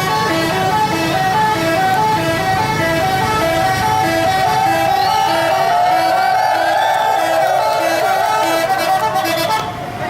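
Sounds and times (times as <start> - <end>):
bus engine rumble: 0.0 - 10.0
multi-tone musical bus horn: 0.0 - 10.0.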